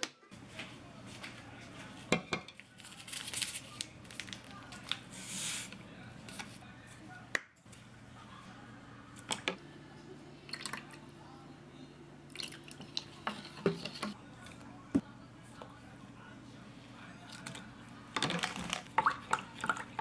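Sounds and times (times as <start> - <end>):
low steady hum: 0.3 - 20.0.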